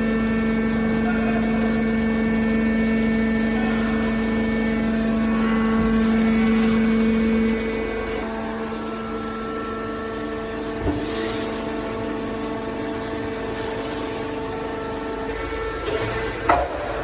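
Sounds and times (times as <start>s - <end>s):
hydraulic power unit humming: 0.0s - 17.0s.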